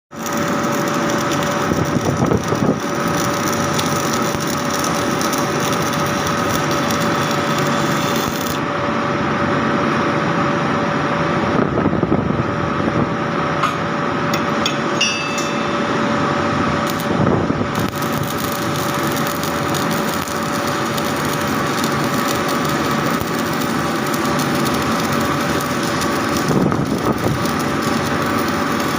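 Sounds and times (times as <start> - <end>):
arc welding hiss and hum: 0.1 - 28.9.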